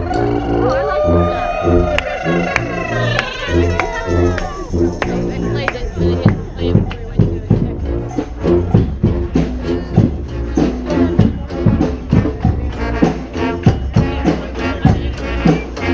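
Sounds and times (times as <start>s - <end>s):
brass marching band playing: 0.0s - 15.9s
steady drum beat: 1.7s - 15.9s.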